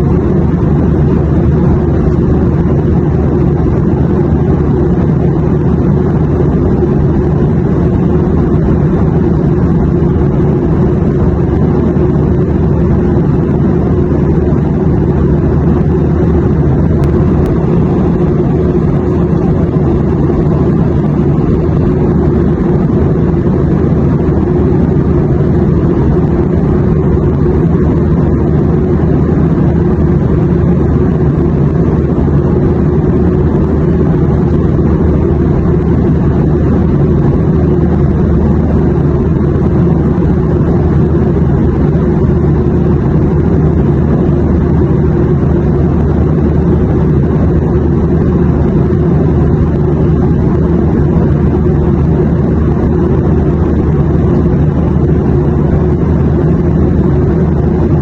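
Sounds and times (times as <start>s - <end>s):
airplane drone: 0.0s - 58.0s.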